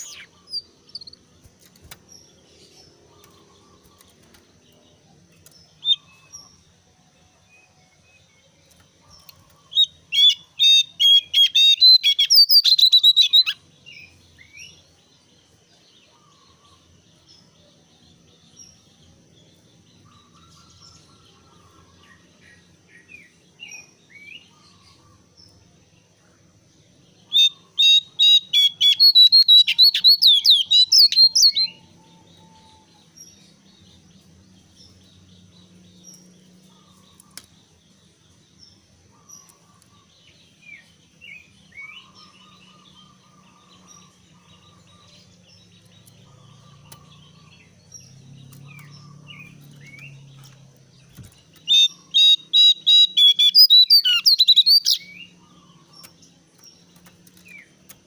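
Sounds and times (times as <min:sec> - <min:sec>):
faint bird chirps: 0:00.0 - 0:58.0.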